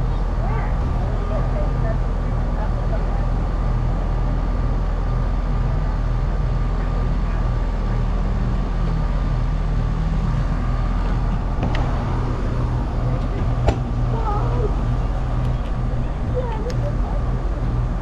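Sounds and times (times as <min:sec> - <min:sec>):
engine droning steadily: 0:00.0 - 0:18.0
faint steady whine: 0:00.0 - 0:18.0.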